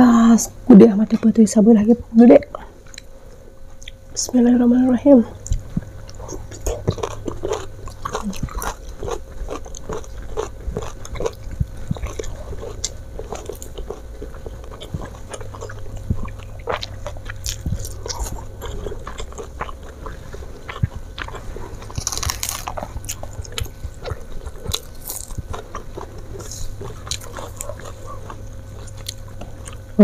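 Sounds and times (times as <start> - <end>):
chewing and crunching: 2.5 - 4.1, 5.3 - 30.0.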